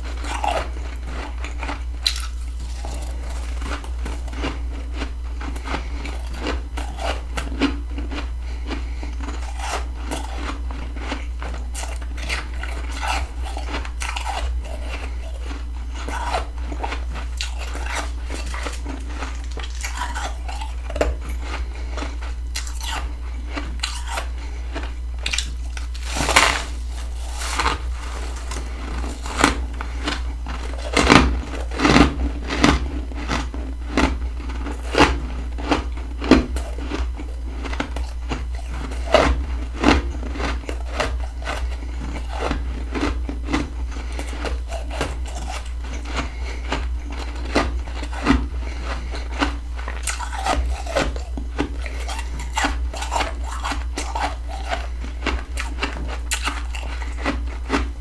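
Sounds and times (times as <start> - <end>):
chewing and crunching frost: 0.0 - 58.0
steady low hum: 0.0 - 58.0.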